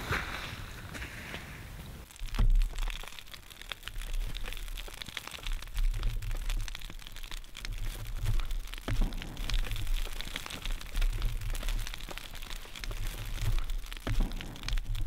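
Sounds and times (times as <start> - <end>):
campfire crackling and popping: 1.7 - 15.0.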